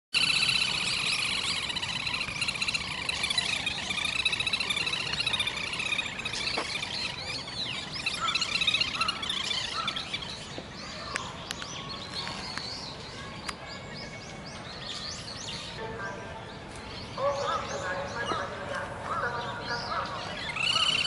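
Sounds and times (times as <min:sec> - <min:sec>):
outdoor background noise: 0:00.1 - 0:21.0
birds chirping: 0:00.2 - 0:21.0.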